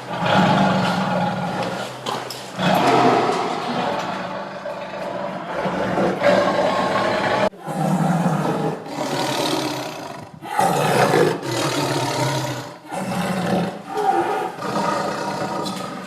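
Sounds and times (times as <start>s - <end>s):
tiger roaring: 0.0s - 16.0s.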